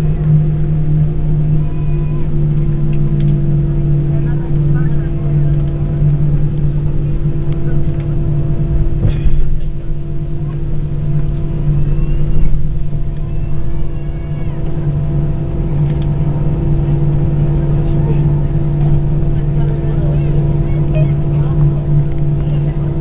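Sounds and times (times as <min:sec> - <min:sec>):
aircraft cabin engine hum: 0:00.0 - 0:23.0.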